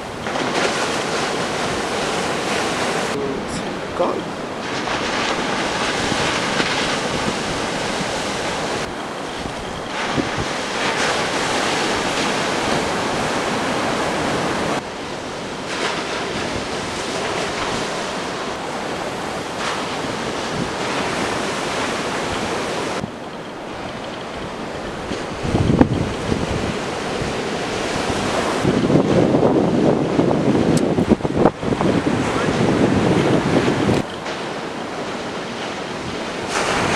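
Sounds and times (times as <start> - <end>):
surf rushing: 0.0 - 36.9
wind buffeting microphone: 0.0 - 36.9.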